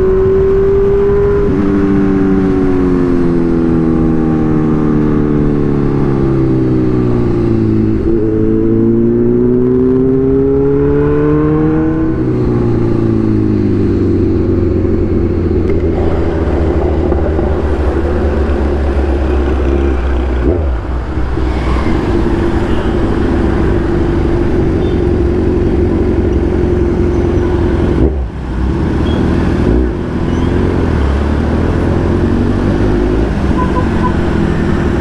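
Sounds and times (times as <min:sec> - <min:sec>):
motorcycle engine while riding: 0:00.0 - 0:35.0.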